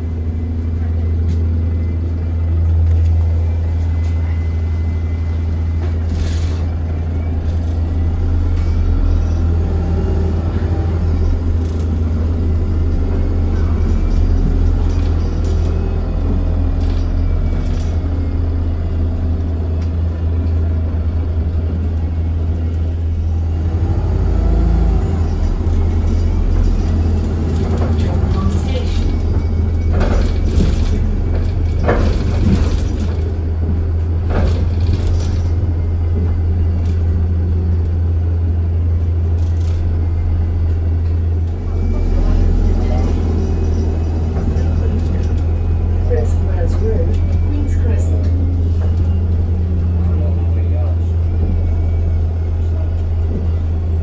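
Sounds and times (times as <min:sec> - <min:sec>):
bus engine drone: 0:00.0 - 0:54.0
road rumble: 0:00.0 - 0:54.0.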